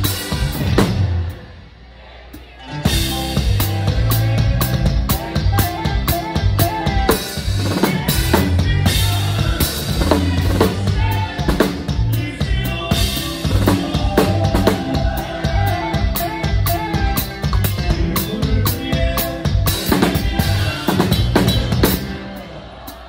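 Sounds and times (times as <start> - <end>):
drum kit steady beat: 0.0 - 1.5, 2.8 - 23.0
band playing: 0.0 - 23.0.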